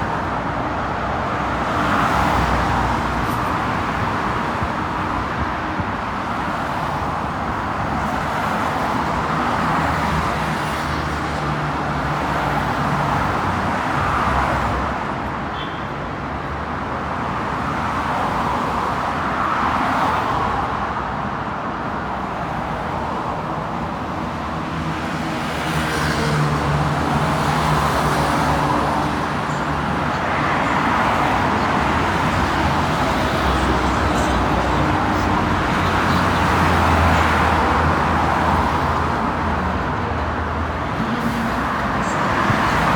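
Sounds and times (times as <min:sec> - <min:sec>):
city road traffic: 0:00.0 - 0:42.9.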